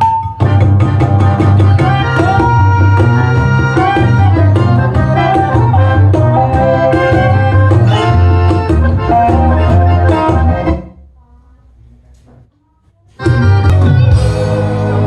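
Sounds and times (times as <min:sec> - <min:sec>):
bass-heavy music through speaker: 0:00.0 - 0:11.0, 0:13.0 - 0:15.0.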